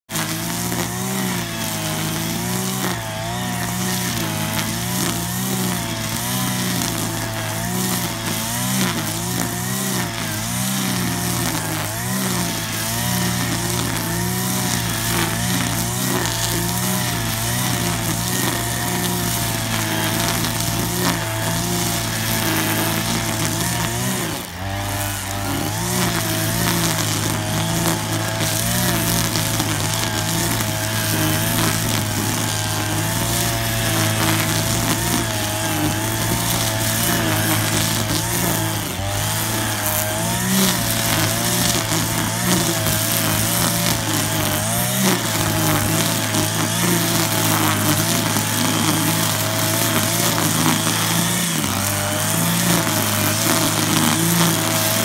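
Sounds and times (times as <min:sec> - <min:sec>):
string trimmer cutting grass: 0:00.0 - 0:55.0.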